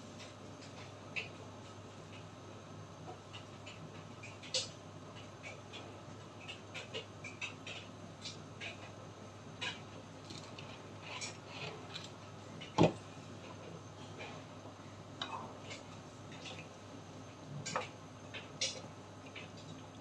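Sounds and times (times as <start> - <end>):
food simmering in frying pan: 0.0 - 20.0.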